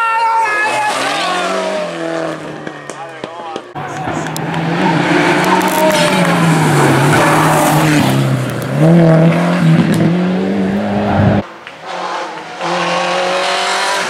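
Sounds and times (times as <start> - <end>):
rally car engine at hard throttle: 0.9 - 14.0.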